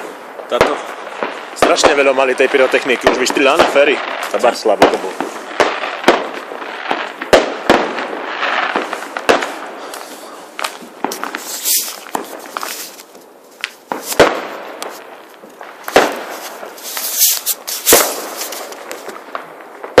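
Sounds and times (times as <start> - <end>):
fireworks bangs: 0.0 - 20.0
fireworks crackling hiss: 0.0 - 20.0.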